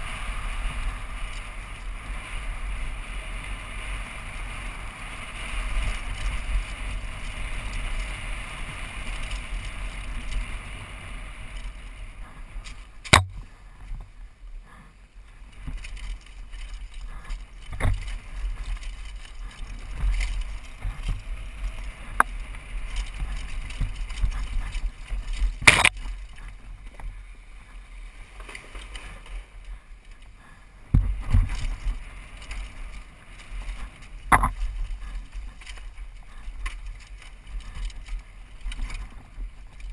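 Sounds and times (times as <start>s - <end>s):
bike rattling: 0.0s - 39.9s.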